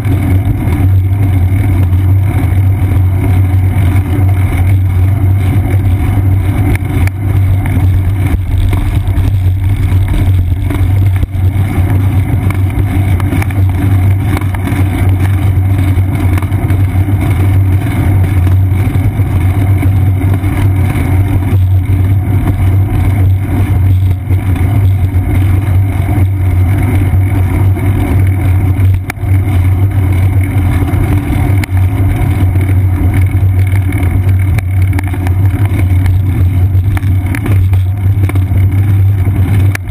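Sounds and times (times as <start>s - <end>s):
bicycle road vibration rumble: 0.0s - 39.9s
wind over camera: 0.0s - 39.9s.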